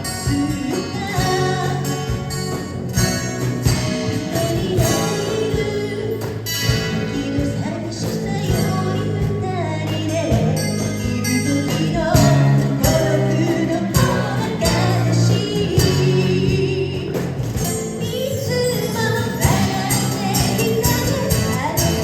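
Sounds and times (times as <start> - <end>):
person singing: 0.0 - 2.5, 3.8 - 22.0
bass line: 0.0 - 22.0
guitar: 0.0 - 22.0.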